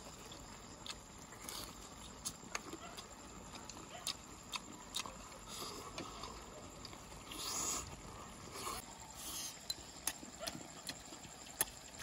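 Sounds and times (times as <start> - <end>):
person chewing wetly: 0.1 - 8.1, 9.6 - 12.0.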